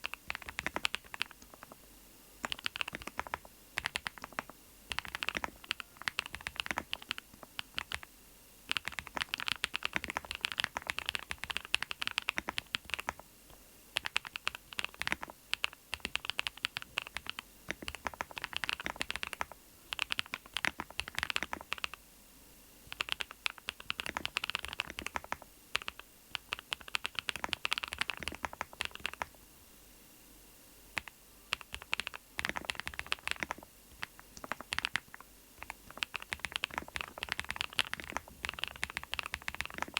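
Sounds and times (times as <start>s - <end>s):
mechanical keyboard typing: 0.0s - 1.8s, 2.4s - 8.1s, 8.7s - 13.2s, 14.0s - 22.0s, 22.9s - 29.4s, 31.0s - 39.9s.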